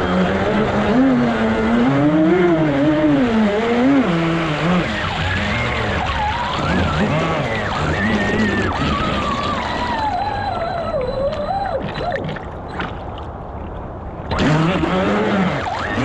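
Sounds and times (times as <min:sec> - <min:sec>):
rc boat motors whining: 0:00.0 - 0:12.8, 0:14.2 - 0:16.0
hulls splashing on water: 0:00.0 - 0:16.0.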